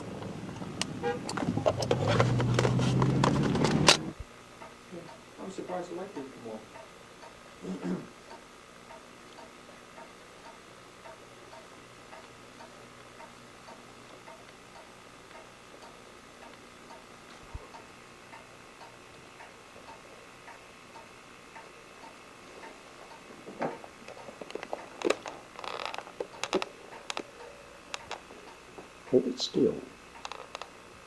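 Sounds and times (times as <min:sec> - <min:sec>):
steady ticking: 0:00.0 - 0:07.6, 0:08.2 - 0:31.0.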